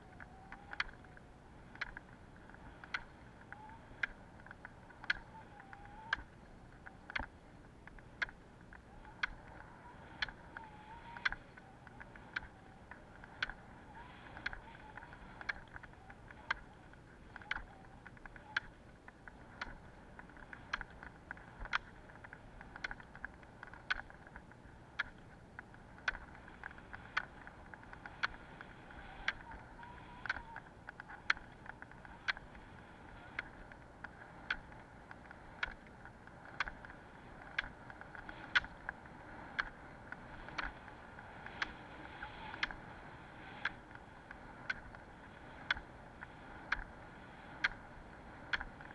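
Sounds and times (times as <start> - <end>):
pole tips clicking on asphalt: 0.0 - 48.9
wheels rolling on road: 0.0 - 48.9.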